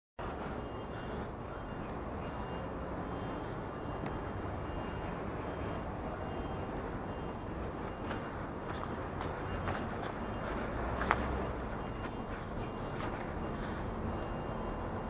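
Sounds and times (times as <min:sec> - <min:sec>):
low rumbling background noise: 0:00.2 - 0:15.0.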